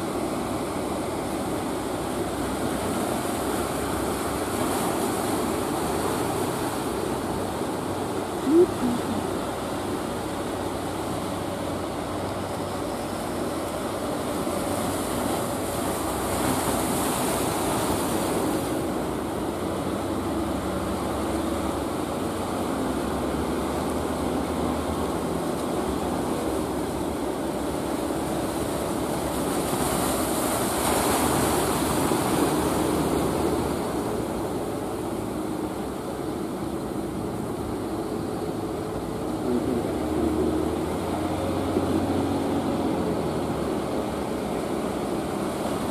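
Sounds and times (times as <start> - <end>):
boat engines running: 0.0 - 45.9.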